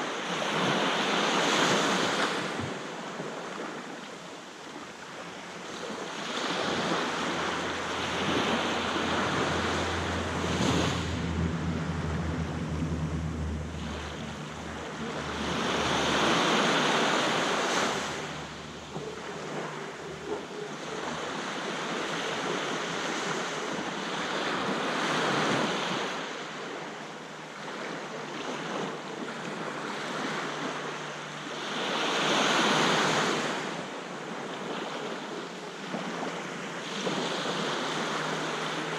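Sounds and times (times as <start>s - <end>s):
waves breaking on a beach: 0.0s - 38.9s
wind rumble on microphone: 0.3s - 38.9s.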